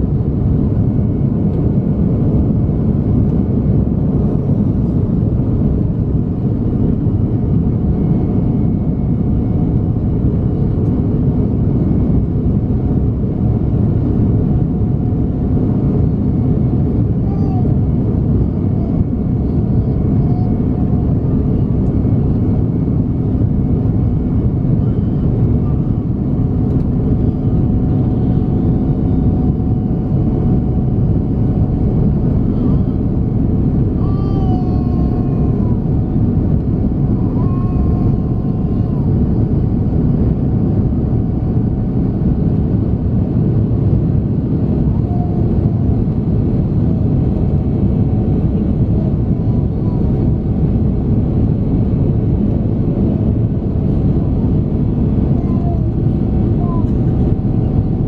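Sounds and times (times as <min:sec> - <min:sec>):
jet engine whine: 0:00.0 - 0:58.0
jet engines deep rumble: 0:00.0 - 0:58.0.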